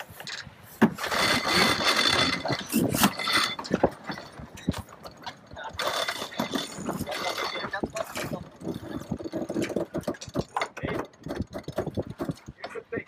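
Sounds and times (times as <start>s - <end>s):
winch whirring and clicking: 0.2s - 13.0s.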